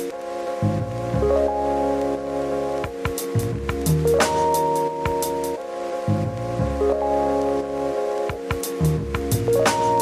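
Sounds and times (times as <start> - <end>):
held chords over low bass: 0.5 - 10.0.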